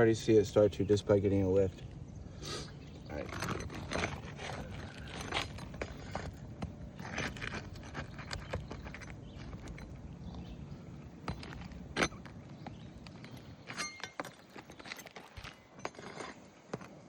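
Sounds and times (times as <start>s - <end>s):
hand tools scraping and knocking: 3.1s - 17.0s.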